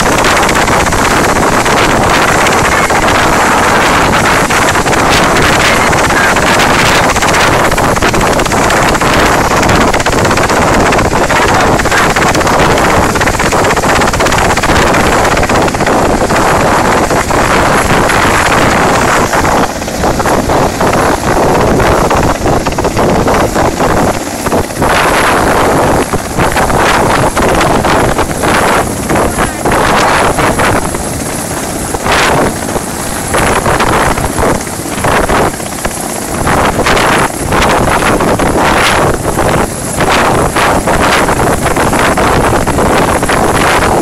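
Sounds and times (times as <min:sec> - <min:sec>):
helicopter turbine and rotor din: 0:00.0 - 0:44.0
rotor wash buffeting microphone: 0:00.0 - 0:44.0.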